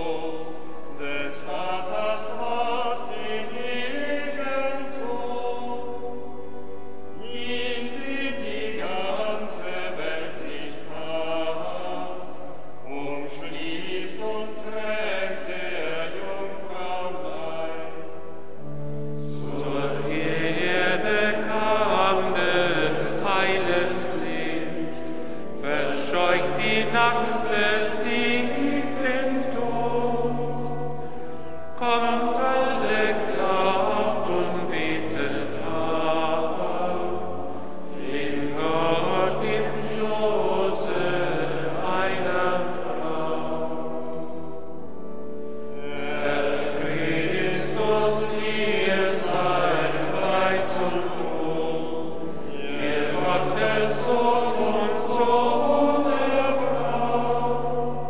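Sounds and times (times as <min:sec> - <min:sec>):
male choir chanting: 0:00.0 - 0:06.3, 0:07.1 - 0:44.7, 0:45.7 - 0:58.0.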